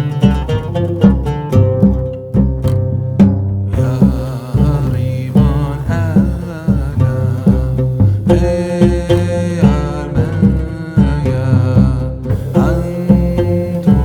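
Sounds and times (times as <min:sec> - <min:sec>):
music with pulsing beat: 0:00.0 - 0:14.0.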